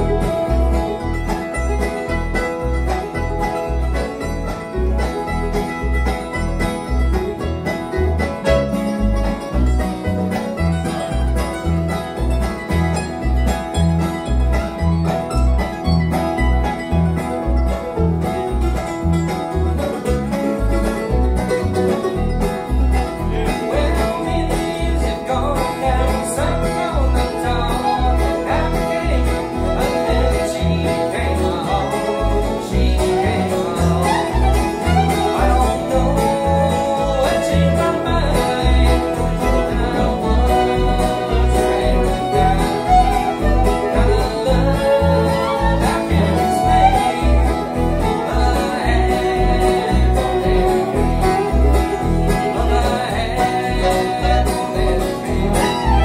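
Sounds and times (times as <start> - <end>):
acoustic guitar: 0.0 - 56.0
fiddle: 0.0 - 56.0
mandolin: 0.0 - 56.0.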